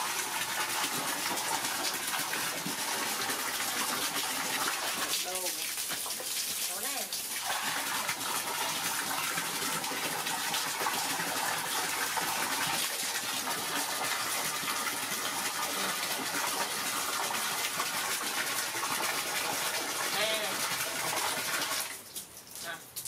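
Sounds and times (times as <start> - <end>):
water gushing into basin: 0.0 - 23.0.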